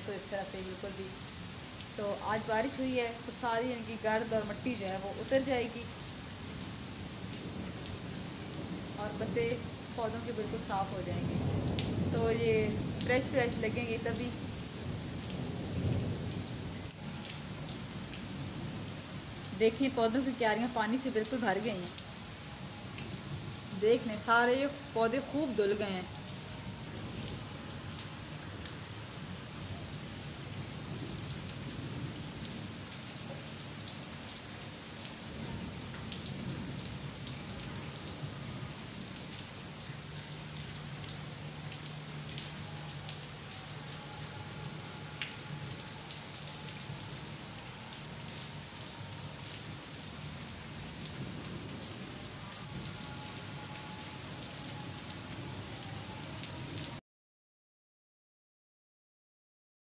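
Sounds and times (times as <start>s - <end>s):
heavy rain on leaves: 0.0s - 57.0s
raindrops ticking close by: 0.0s - 57.0s.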